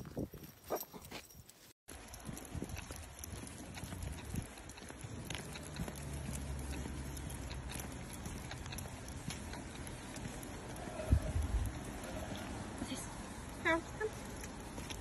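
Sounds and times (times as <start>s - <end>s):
footsteps on wet pavement: 1.5s - 15.0s.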